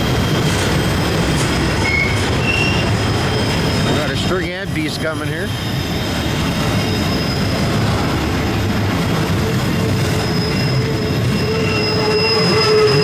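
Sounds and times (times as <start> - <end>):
freight train wheels rumbling: 0.0 - 13.0
high-pitched wheel squeal: 0.1 - 4.3, 5.1 - 8.0, 9.3 - 13.0.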